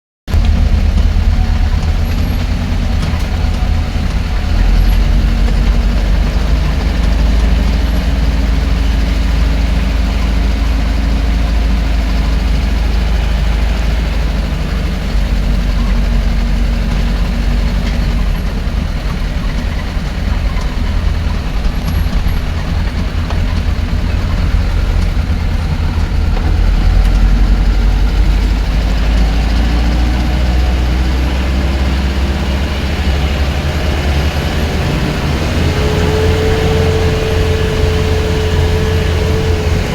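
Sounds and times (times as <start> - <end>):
heavy vehicle engine rumbling: 0.3 - 39.9.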